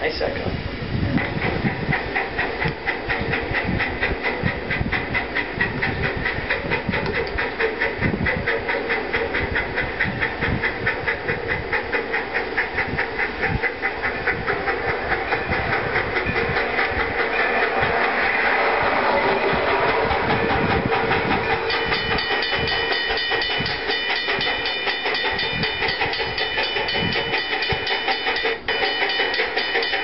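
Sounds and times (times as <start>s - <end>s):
steam hissing: 0.0s - 30.0s
steam locomotive chuffing: 0.0s - 30.0s
train running noise: 0.0s - 30.0s.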